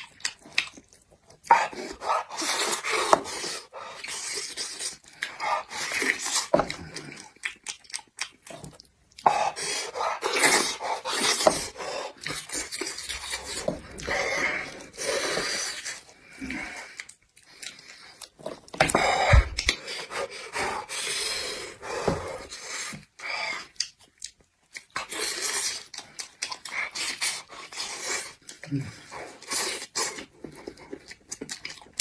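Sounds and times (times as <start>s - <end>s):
chewing and slurping: 0.0s - 32.0s.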